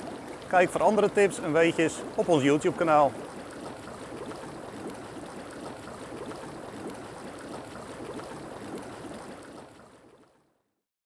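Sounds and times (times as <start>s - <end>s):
bubbling rushing water: 0.0s - 10.6s.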